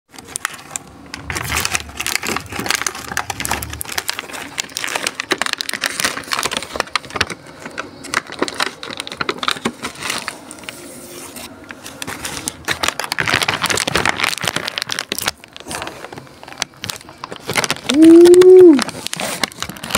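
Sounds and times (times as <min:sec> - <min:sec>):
plastic bag and container crinkling: 0:00.1 - 0:19.9.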